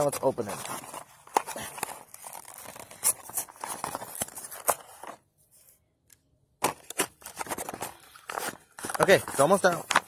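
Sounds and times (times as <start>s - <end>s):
packaging rustling and crinkling: 0.0s - 5.3s, 6.6s - 10.0s.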